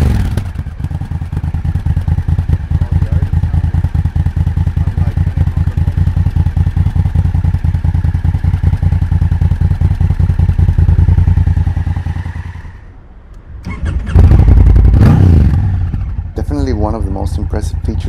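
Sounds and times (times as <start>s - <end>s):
motorcycle engine throbbing: 0.0s - 12.9s, 13.7s - 18.0s.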